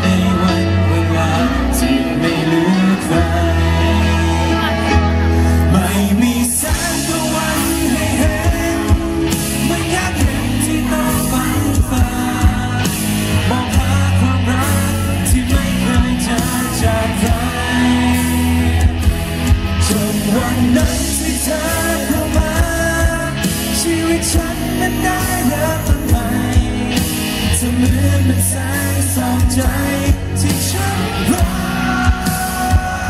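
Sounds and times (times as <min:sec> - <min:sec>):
man singing into microphone: 0:00.0 - 0:33.0
band playing with drum beat: 0:02.1 - 0:33.0.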